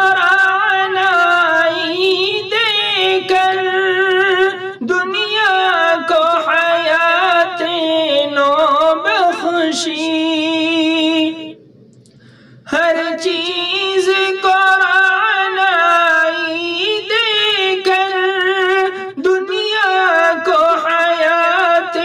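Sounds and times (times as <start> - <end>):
man singing unaccompanied: 0.0 - 11.6, 12.6 - 22.0.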